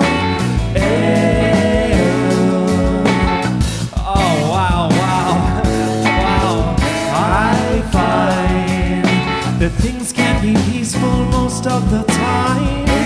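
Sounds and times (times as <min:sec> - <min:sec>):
drum hits: 0:00.0 - 0:13.0
live rock band playing: 0:00.0 - 0:13.0
pitch-bending lead guitar line: 0:00.0 - 0:13.0.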